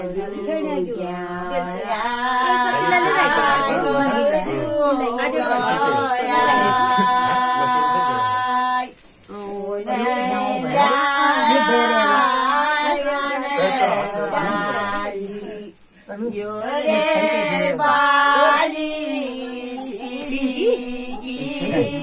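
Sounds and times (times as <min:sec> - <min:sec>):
voices singing a cappella: 0:00.0 - 0:22.0.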